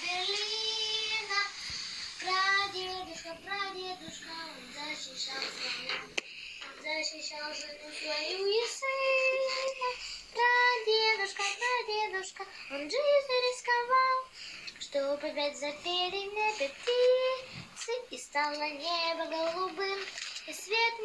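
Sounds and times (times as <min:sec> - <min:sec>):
girl singing: 0:00.0 - 0:21.0.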